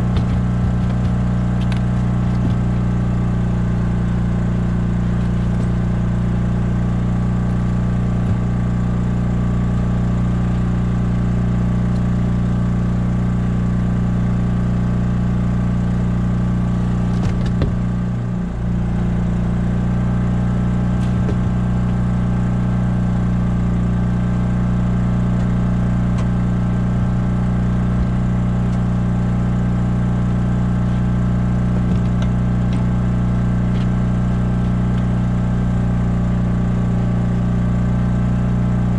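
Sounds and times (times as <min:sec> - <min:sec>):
generator engine running: 0:00.0 - 0:38.9.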